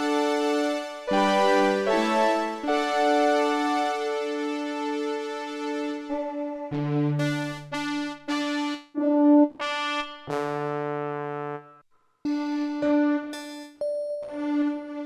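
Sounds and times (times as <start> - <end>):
synthesizer notes and chords: 0.0 - 10.8, 11.5 - 15.0.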